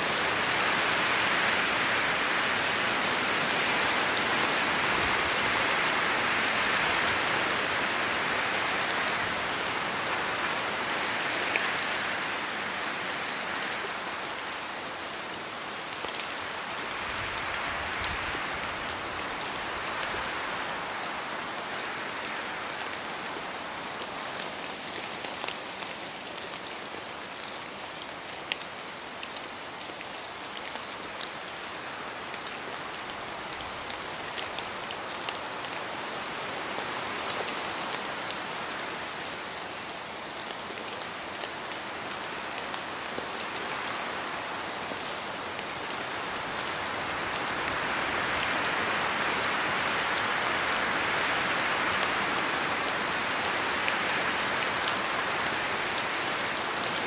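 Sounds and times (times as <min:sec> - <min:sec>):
steady rain with drop ticks: 0:00.0 - 0:57.0.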